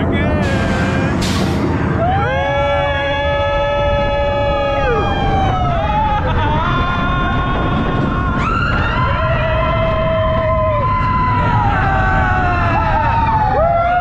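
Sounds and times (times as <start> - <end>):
roller coaster rumbling on track: 0.0 - 14.0
riders screaming: 2.0 - 14.0.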